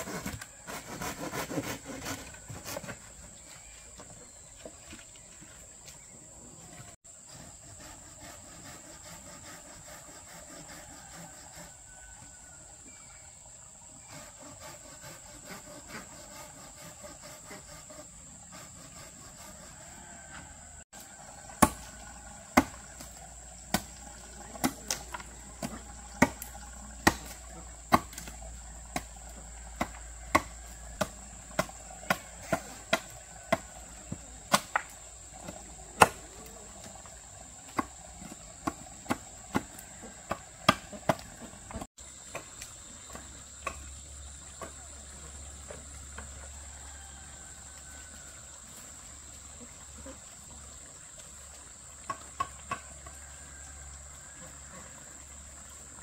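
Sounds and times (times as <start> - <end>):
insects chirring: 3.1 - 56.0.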